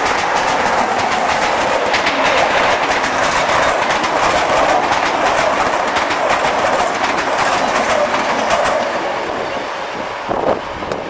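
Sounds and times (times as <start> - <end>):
train coaches rolling rumble: 0.0 - 11.0
wheels clacking over rail joints: 0.0 - 11.0.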